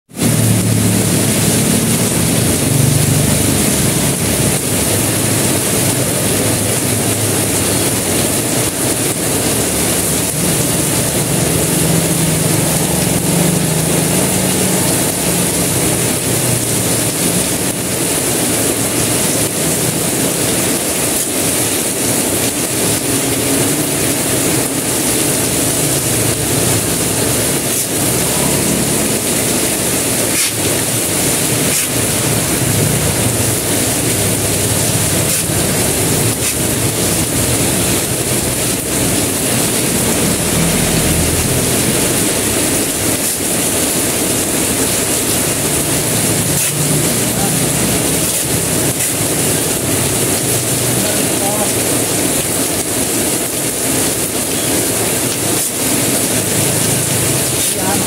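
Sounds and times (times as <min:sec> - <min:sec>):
heavy rain on road and roofs: 0:00.1 - 0:58.0
motorbike passing: 0:00.2 - 0:58.0.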